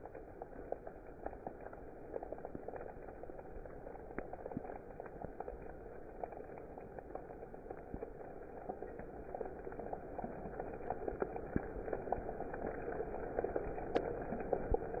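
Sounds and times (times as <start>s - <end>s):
rain patter: 0.0s - 15.0s.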